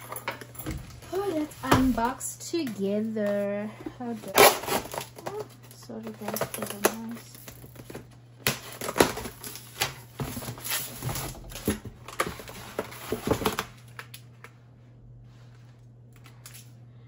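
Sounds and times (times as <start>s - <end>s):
plastic food packs rustling: 0.0s - 14.6s
low steady hum: 0.0s - 17.0s.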